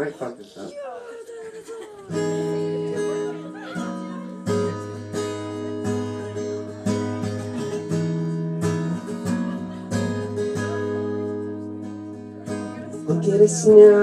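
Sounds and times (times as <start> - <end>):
acoustic guitar strumming: 2.1 - 14.0.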